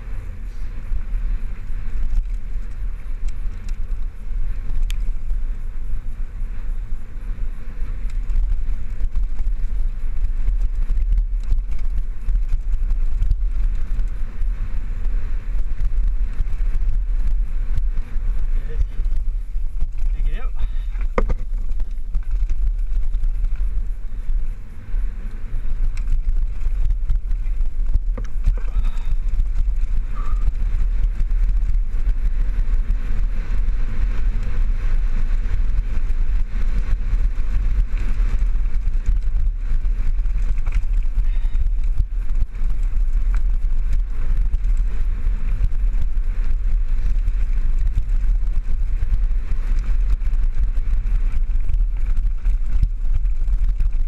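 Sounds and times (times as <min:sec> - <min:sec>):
bike rattles and clicks: 0:00.0 - 0:54.0
bike tyres on dirt trail: 0:00.0 - 0:54.0
wind buffeting microphone: 0:00.0 - 0:54.0.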